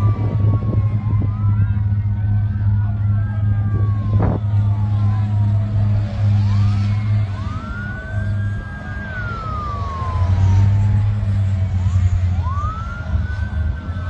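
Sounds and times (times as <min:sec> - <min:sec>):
emergency sirens wailing: 0:00.0 - 0:14.0.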